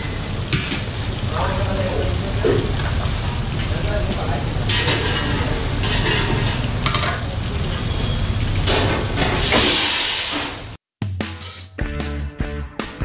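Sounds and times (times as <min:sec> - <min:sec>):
food deep-frying in oil: 0:00.0 - 0:10.8.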